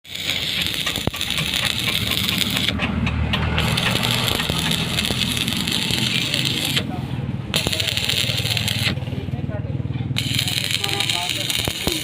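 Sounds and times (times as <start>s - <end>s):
welding arc crackling hiss: 0.0s - 2.8s, 3.6s - 9.2s, 10.2s - 12.0s
sharp ticks: 0.1s - 6.9s, 7.6s - 9.0s, 10.2s - 12.0s.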